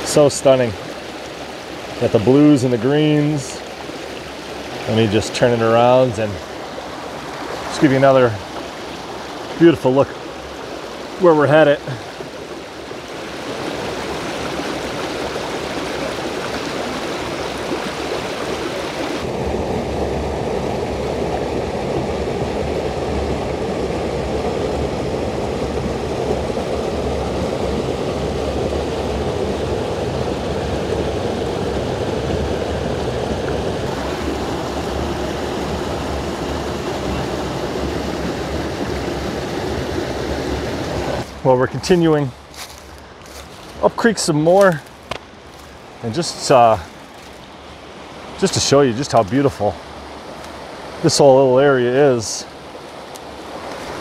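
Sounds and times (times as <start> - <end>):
creek water rushing over boulders: 0.0 - 54.0.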